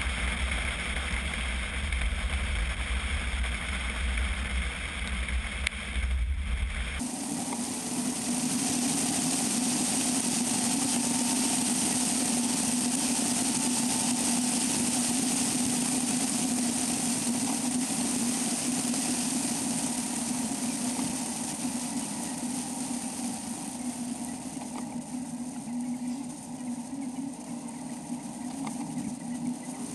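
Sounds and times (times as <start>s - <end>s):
vehicle engine drone: 0.0s - 29.9s
wind and tyre hiss: 0.0s - 29.9s.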